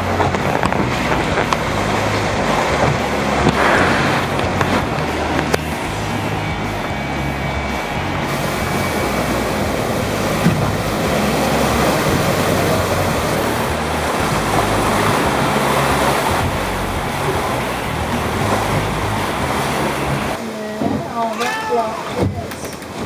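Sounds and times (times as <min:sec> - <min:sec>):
wind buffeting microphone: 0:00.0 - 0:21.2
rough sea rushing past hulls: 0:00.0 - 0:23.0.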